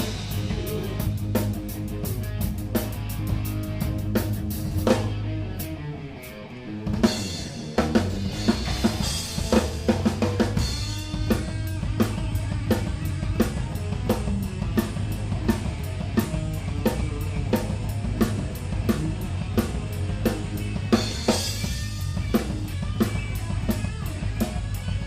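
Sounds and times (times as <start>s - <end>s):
drum fills: 0.0s - 5.2s, 6.9s - 25.0s
bass guitar: 0.0s - 25.0s
live rock band: 0.0s - 25.0s.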